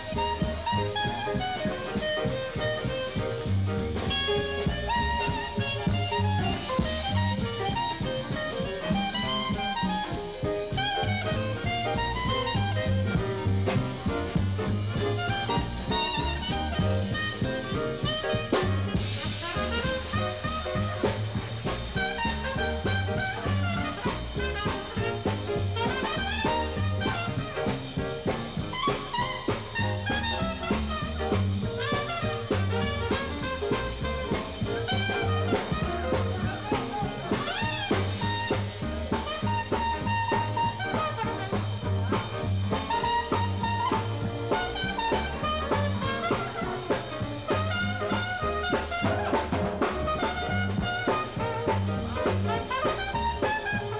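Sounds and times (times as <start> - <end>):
bass: 0.0 - 53.9
clarinet: 0.0 - 53.9
drum kit beat: 0.0 - 53.9
trumpet: 0.0 - 53.9.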